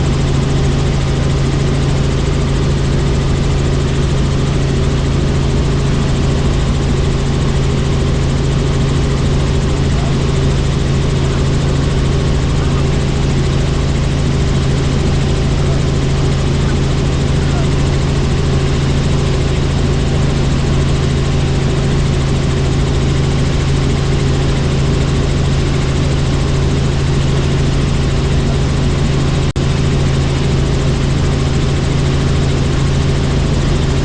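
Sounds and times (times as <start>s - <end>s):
helicopter rotor and engine drone: 0.0s - 34.0s.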